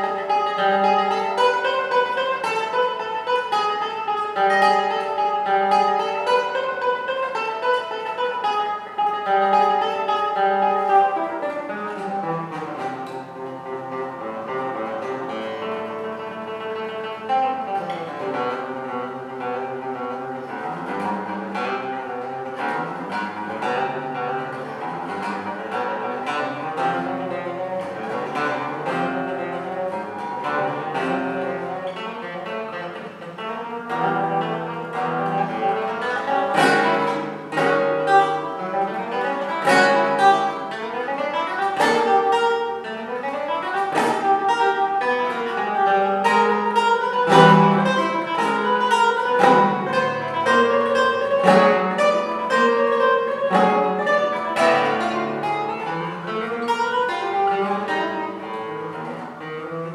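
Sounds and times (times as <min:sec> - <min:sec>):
classical guitar playing: 0:00.0 - 0:59.9.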